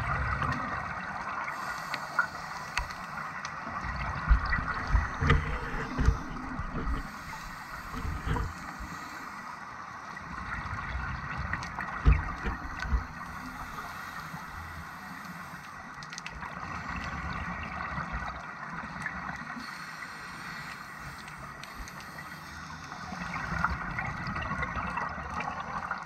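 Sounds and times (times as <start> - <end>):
regulator bubbles gurgling: 0.0 - 26.0
underwater water noise: 0.0 - 26.0.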